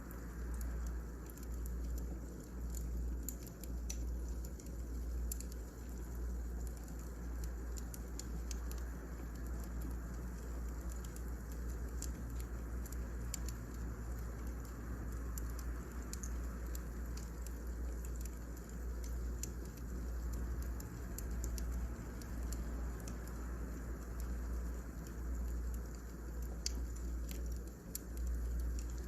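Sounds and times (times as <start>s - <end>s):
low rumble and soft hiss: 0.0s - 29.0s
wood fire pops and ticks: 0.0s - 29.0s.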